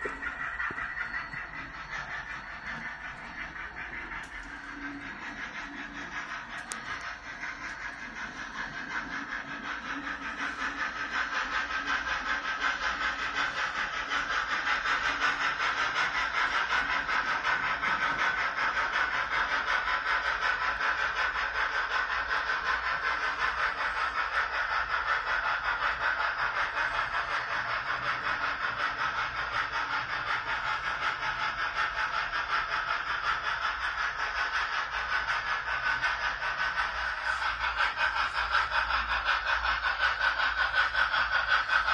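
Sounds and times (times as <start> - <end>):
model train rolling: 0.0 - 41.9.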